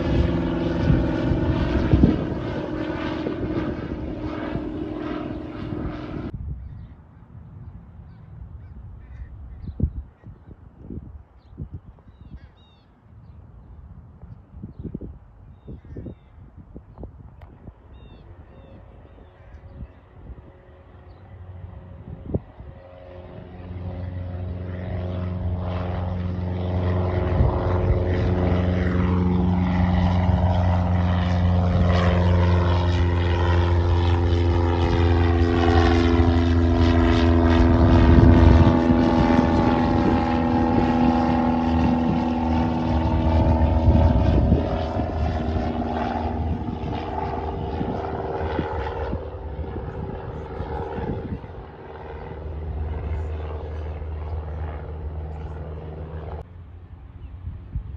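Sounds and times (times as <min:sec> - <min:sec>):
propeller plane engine drone: 0:00.0 - 0:57.9.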